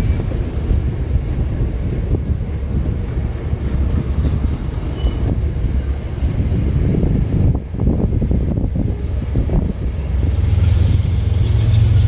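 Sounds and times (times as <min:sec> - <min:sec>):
train coaches rumbling past: 0:00.0 - 0:12.0
wind buffeting microphone: 0:00.0 - 0:12.0.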